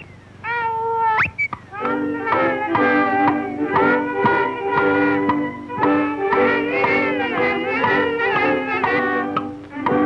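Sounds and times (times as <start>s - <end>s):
music: 1.7s - 10.0s.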